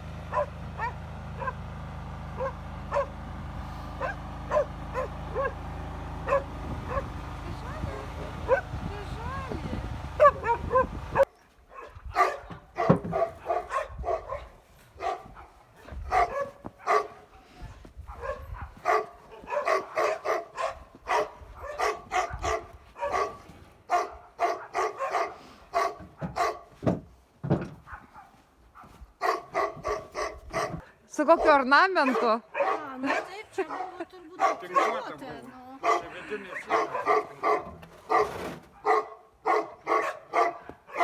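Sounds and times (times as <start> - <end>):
dog barking: 0.3 - 1.6, 2.4 - 3.1, 4.0 - 5.6, 6.2 - 7.2, 7.9 - 8.8, 10.2 - 17.4, 18.0 - 26.7, 27.8 - 30.8, 31.4 - 41.0.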